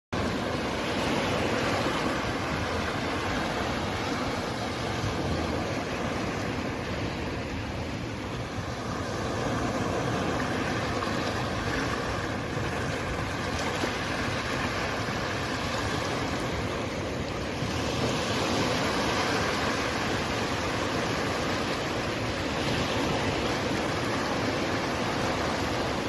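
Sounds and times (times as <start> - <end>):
ocean waves washing: 0.2 - 26.0.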